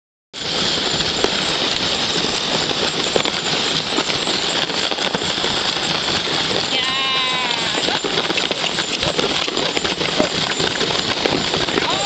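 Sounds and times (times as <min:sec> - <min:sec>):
hooves in snow: 0:00.4 - 0:12.0
sled runners hissing on snow: 0:00.4 - 0:12.0.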